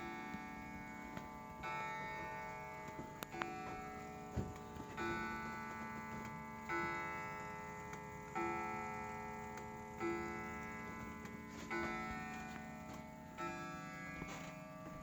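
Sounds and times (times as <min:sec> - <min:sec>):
wall clock ticking: 0:01.2 - 0:14.2.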